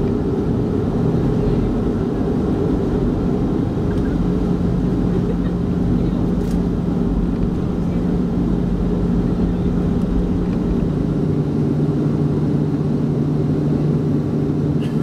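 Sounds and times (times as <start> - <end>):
jet engine cabin drone: 0.0 - 15.0.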